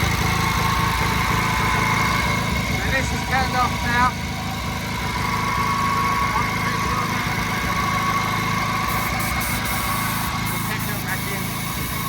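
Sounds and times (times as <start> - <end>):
high whine: 0.0 - 12.0
stationary engine running: 0.0 - 12.0.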